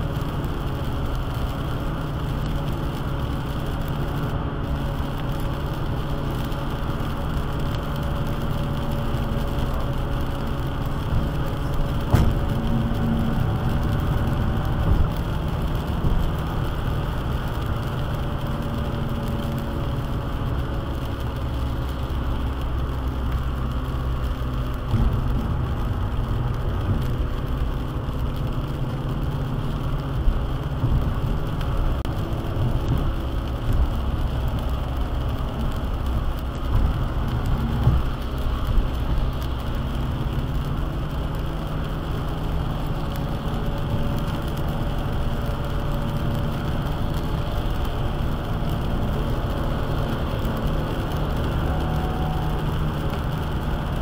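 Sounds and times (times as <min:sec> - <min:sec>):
rain on windshield: 0:00.0 - 0:54.0
tyres and engine rumbling: 0:00.0 - 0:54.0.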